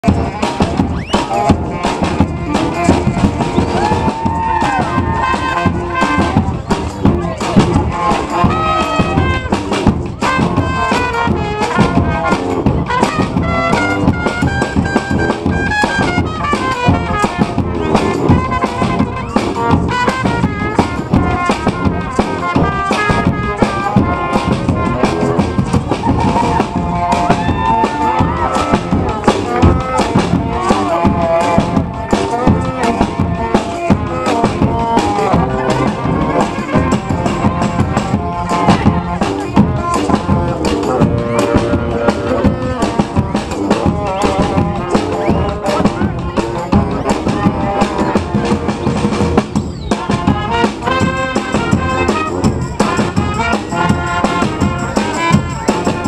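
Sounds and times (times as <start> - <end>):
drum beat: 0.0 - 56.0
street brass band playing: 0.0 - 56.0
held high trumpet note: 0.4 - 48.7, 49.9 - 56.0.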